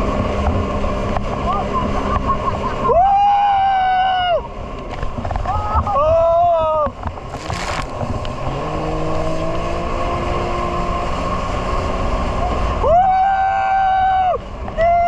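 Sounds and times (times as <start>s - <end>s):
jet ski engine running: 0.0s - 15.0s
wind and water noise: 0.0s - 15.0s.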